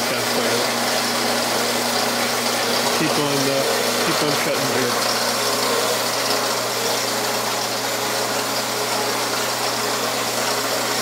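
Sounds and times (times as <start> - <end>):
metal-cutting bandsaw motor hum: 0.0 - 11.0.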